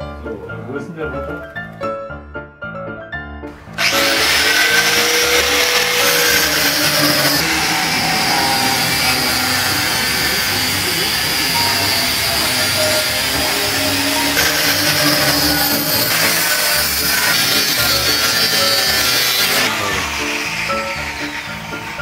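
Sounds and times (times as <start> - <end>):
faint music: 0.0 - 22.0
angle grinder cutting metal: 3.5 - 22.0.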